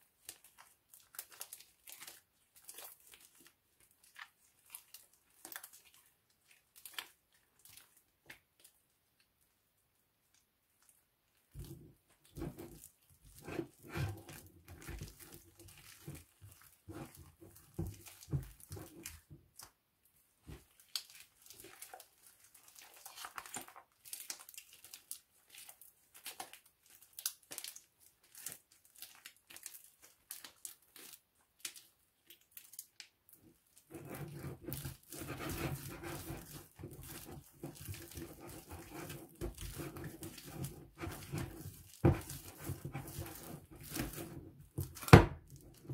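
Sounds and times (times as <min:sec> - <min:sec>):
slime crackling and squelching: 0:00.0 - 0:09.5, 0:10.2 - 0:19.8, 0:20.4 - 0:45.9.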